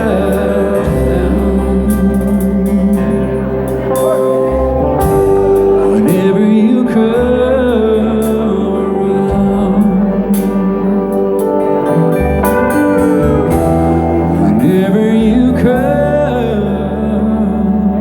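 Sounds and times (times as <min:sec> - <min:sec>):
bass line: 0:00.0 - 0:18.0
person singing long notes: 0:00.0 - 0:18.0.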